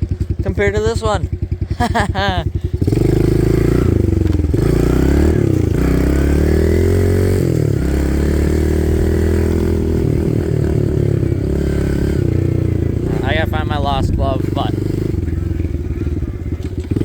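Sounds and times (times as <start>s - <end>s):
small engine revving: 0.0s - 17.0s.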